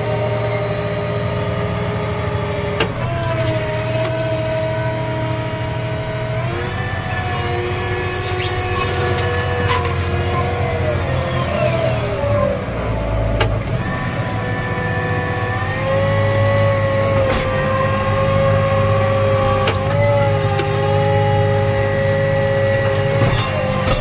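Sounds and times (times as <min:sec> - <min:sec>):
tractor engine straining: 0:00.0 - 0:24.0.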